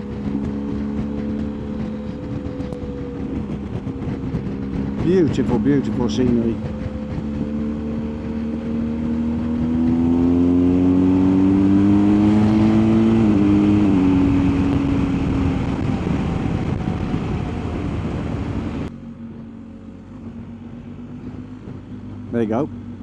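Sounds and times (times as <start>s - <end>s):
wind rush: 0.0s - 18.9s.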